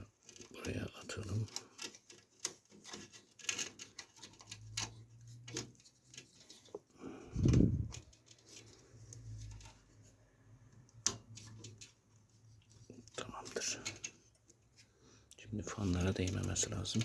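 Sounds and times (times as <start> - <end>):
light clicks and taps of cables: 0.0 - 17.0.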